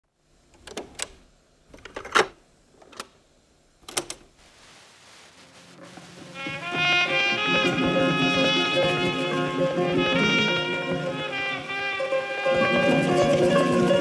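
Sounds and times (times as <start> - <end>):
faint tape hiss: 0.0 - 14.0.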